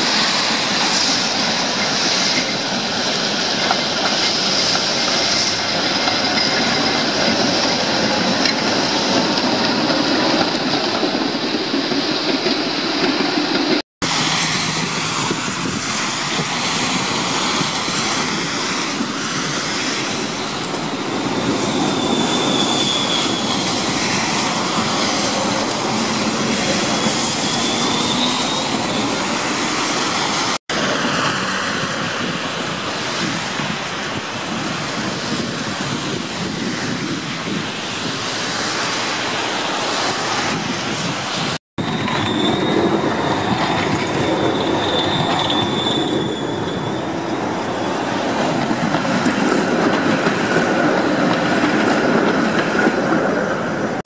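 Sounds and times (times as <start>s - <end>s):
tram passing: 0.0s - 54.0s
tram wheels squealing: 0.0s - 54.0s
wet street traffic hiss: 0.0s - 54.0s.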